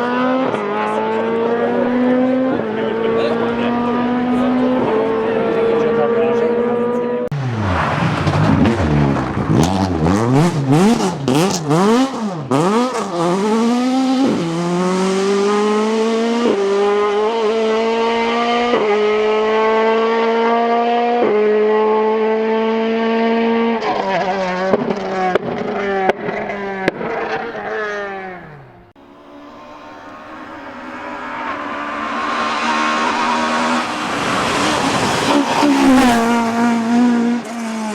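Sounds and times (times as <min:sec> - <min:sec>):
rally car engine revving: 0:00.0 - 0:37.9.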